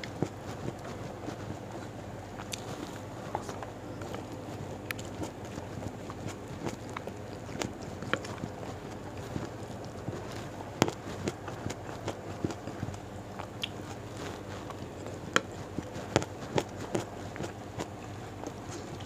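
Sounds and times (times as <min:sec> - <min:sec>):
close chewing and mouth smacks: 0:00.0 - 0:19.0.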